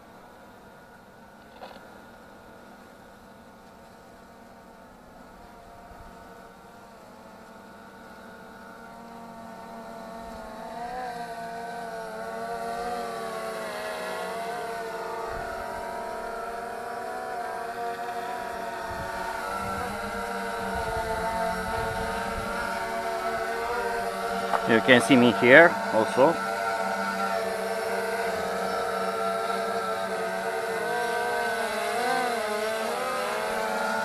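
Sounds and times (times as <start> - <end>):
drone propellers humming: 0.0 - 34.0.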